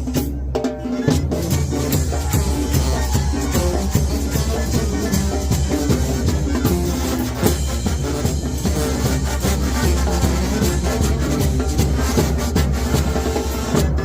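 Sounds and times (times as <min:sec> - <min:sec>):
brass band playing: 0:00.0 - 0:14.0
drums keeping a beat: 0:00.0 - 0:14.0.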